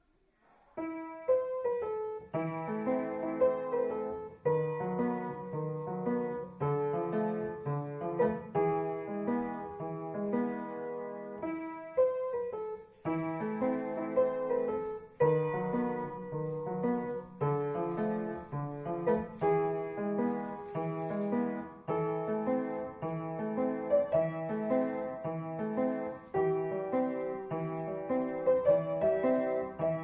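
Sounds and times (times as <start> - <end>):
solo piano piece: 0.0 - 30.0.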